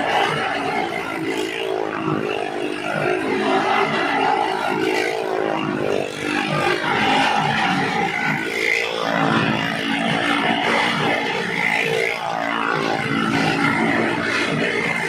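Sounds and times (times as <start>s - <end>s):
vehicle engines revving: 0.0s - 15.0s.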